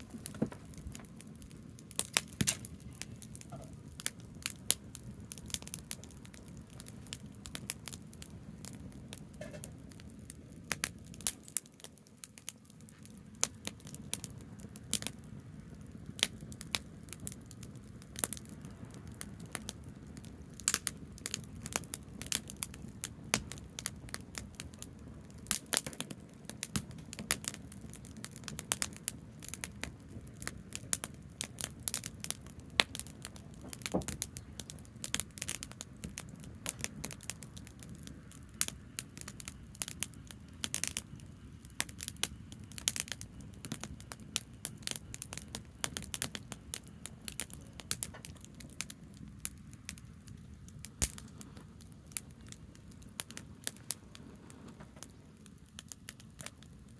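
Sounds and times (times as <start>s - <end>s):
bonfire crackling: 0.0s - 56.9s.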